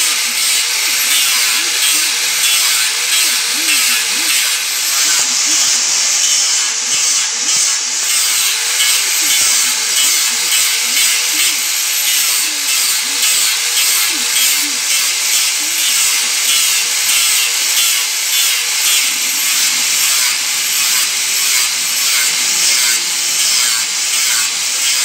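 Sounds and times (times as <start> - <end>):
angle grinder sanding wood: 0.0 - 25.0.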